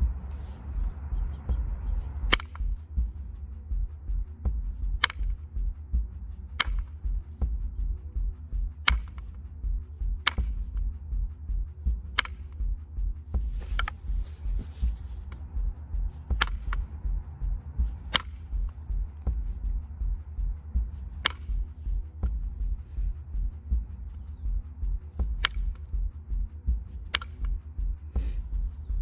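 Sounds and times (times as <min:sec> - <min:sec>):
copper flaker clicking on stone: 0:01.8 - 0:03.0, 0:03.8 - 0:28.7.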